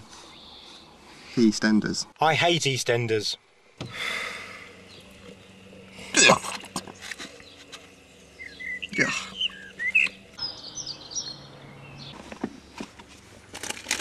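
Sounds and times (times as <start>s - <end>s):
small birds chirping: 0.0s - 1.4s, 3.1s - 13.1s.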